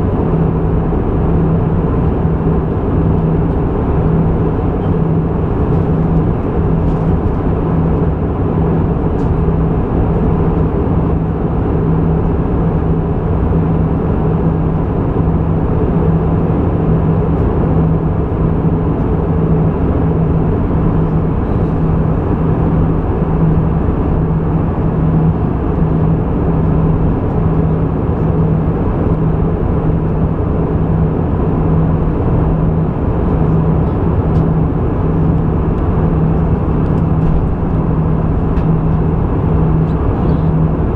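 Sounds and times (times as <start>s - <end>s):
aircraft engine drone: 0.0s - 40.9s
low hum: 0.0s - 40.9s.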